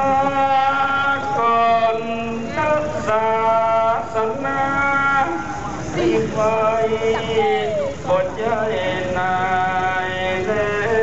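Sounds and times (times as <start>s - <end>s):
man chanting with held notes: 0.0s - 11.0s.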